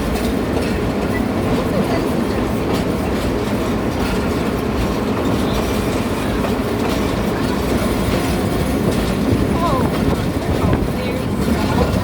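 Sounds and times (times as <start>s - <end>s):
train wheels rattling on rails: 0.0s - 12.0s.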